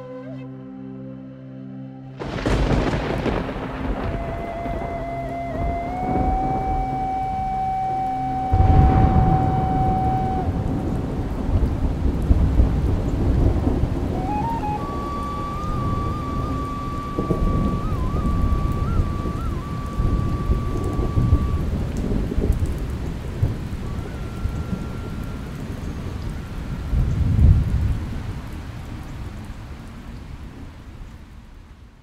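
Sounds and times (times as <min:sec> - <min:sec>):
steady rain: 0:02.1 - 0:32.0
thunder rumbling: 0:02.2 - 0:29.6.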